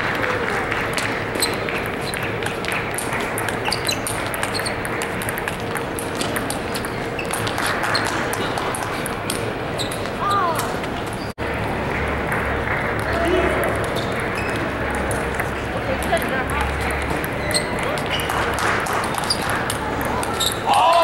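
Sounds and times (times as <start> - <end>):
hubbub of a big hall: 0.0 - 21.0
table tennis balls clicking: 0.0 - 21.0.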